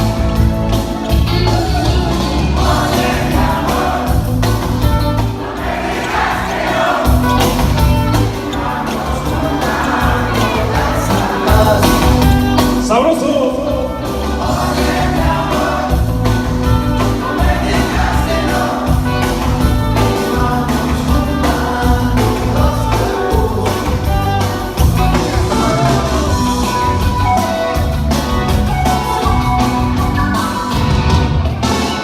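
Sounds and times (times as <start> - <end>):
loud party music with singing: 0.0 - 32.0.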